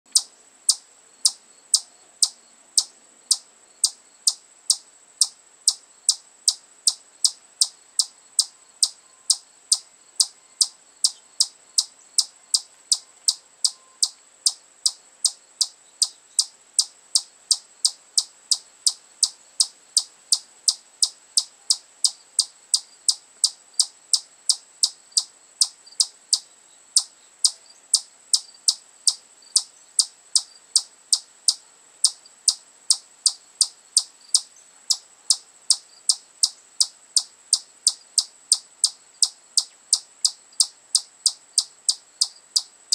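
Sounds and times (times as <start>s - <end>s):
chipmunk chip calls: 0.1s - 42.7s.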